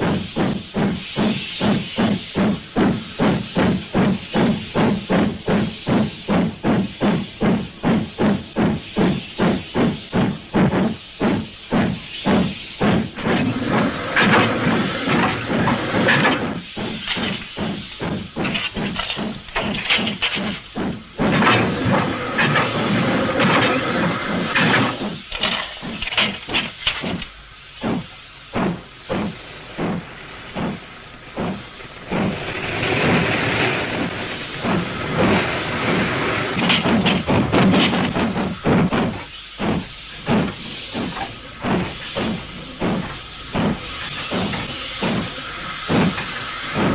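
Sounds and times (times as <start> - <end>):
rushing hiss: 0.0 - 46.9
steam hissing: 0.0 - 46.9
steam locomotive chuffing: 0.0 - 46.9.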